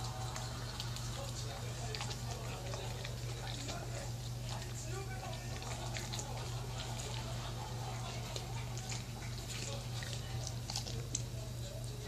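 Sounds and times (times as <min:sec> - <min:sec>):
dog licking and chewing: 0:00.0 - 0:12.0
low steady hum: 0:00.0 - 0:12.0.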